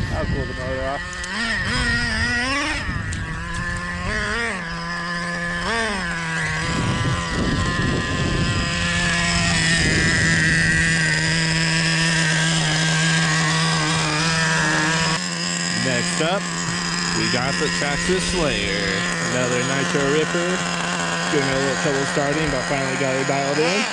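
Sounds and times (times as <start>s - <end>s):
rc truck engine revving: 0.0s - 23.9s.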